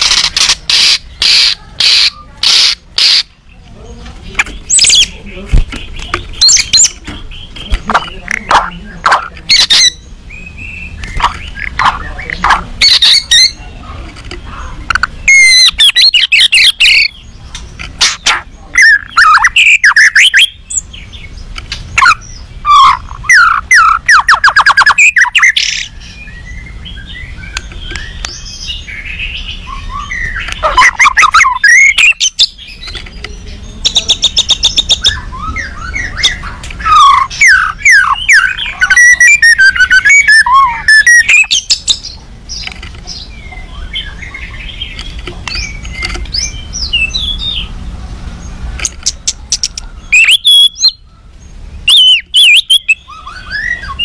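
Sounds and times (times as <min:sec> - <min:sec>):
bird singing clicking and whistling: 0:00.0 - 0:03.3, 0:04.0 - 0:26.6, 0:27.2 - 0:47.7, 0:48.7 - 0:51.0, 0:51.8 - 0:54.0.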